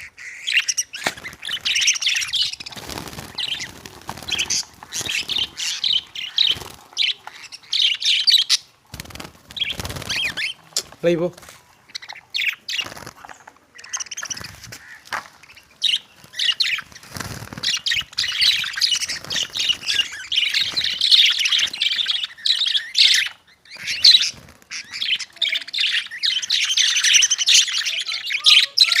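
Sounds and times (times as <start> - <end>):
lovebirds chirping: 0.0 - 29.0.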